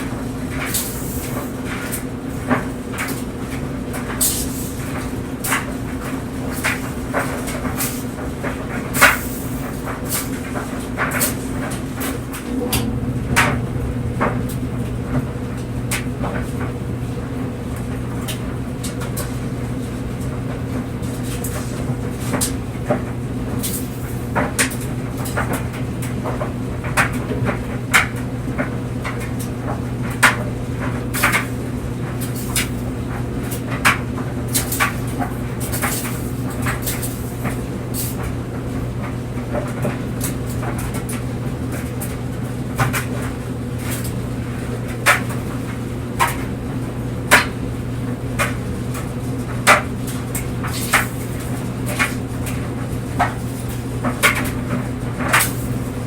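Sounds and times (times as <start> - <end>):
clothes dryer motor hum: 0.0 - 56.0.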